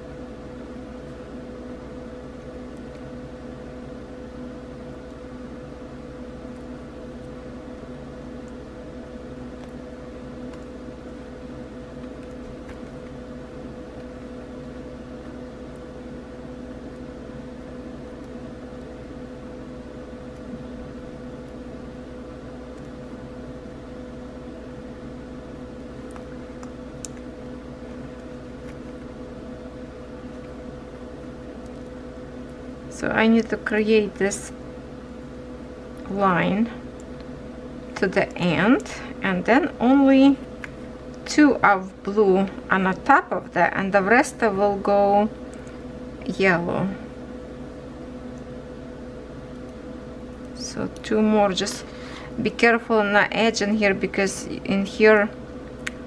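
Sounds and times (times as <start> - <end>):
machine hum: 0.0 - 56.0.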